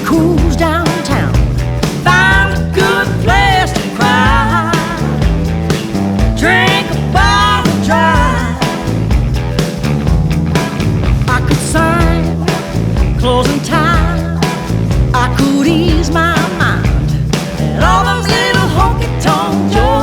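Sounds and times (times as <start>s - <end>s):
rock band music: 0.0s - 20.0s.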